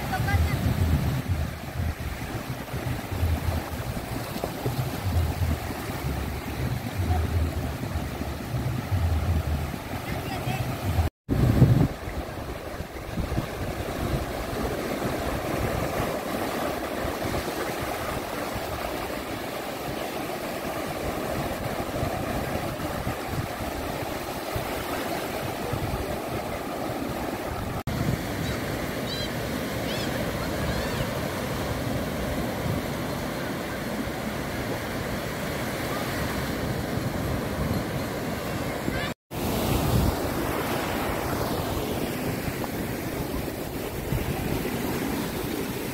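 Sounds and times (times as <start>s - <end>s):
small waves breaking on beach: 0.0s - 45.9s
wind gusting on microphone: 0.0s - 45.9s.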